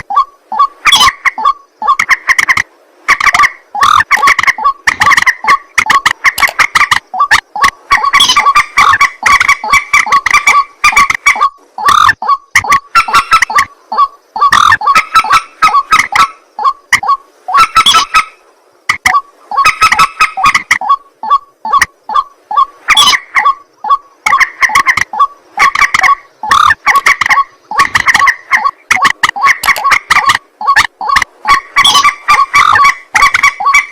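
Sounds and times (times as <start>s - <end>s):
harsh honking bird calls: 3.1s - 18.4s, 19.1s - 33.9s.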